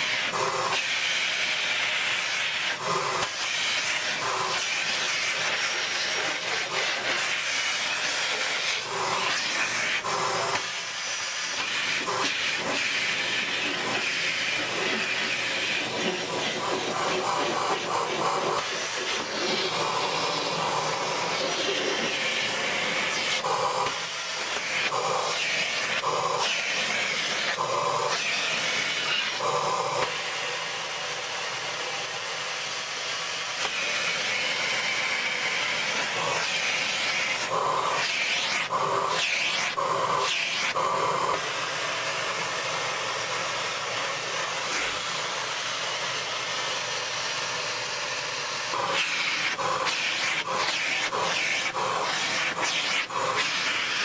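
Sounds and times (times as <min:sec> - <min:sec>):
vacuum cleaner suction hiss: 0:00.0 - 0:54.0.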